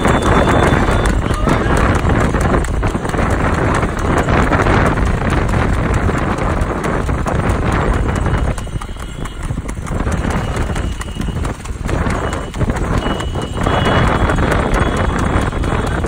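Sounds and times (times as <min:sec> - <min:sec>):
horse hooves clip-clop on asphalt: 0:00.0 - 0:16.0
rushing road noise: 0:00.0 - 0:16.0.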